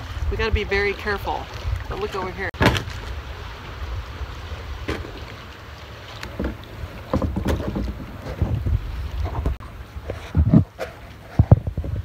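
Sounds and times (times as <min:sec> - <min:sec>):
wind buffeting microphone: 0:00.0 - 0:05.6, 0:06.3 - 0:12.0
short water splashes: 0:00.0 - 0:12.0
water lapping against kayak hull: 0:00.0 - 0:12.0.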